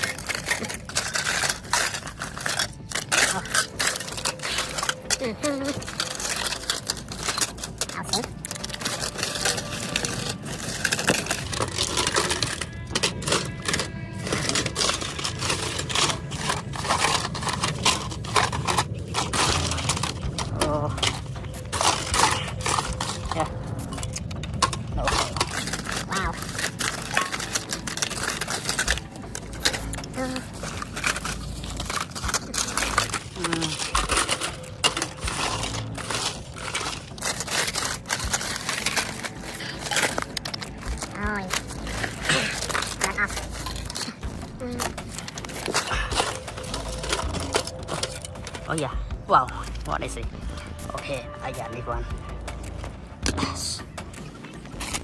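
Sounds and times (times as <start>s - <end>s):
hands sorting through rubbish: 0.0s - 55.0s
small hard objects clattering: 0.0s - 55.0s.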